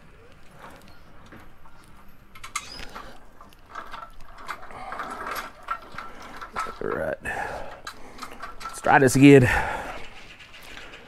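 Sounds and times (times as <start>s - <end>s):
lift jack metal clicks and squeaks: 0.2s - 11.0s.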